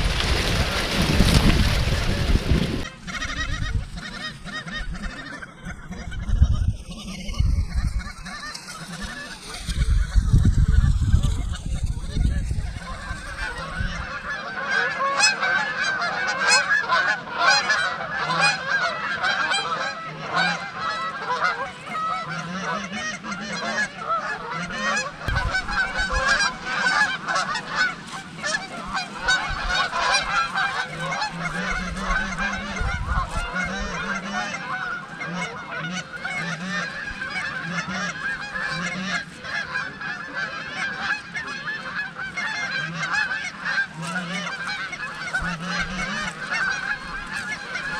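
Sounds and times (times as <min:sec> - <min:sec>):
flock of geese honking: 0:00.0 - 0:47.9.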